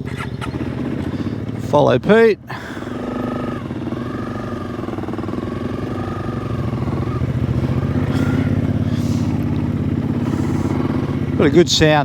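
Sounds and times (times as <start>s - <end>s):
motorcycle engines pulling away: 0.0s - 12.0s.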